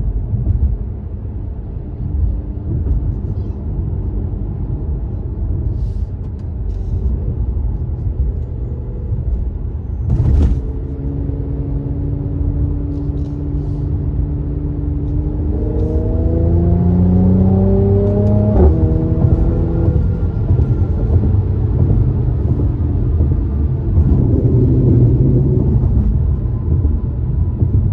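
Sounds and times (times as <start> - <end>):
car engine and exhaust rumble: 0.0 - 27.9.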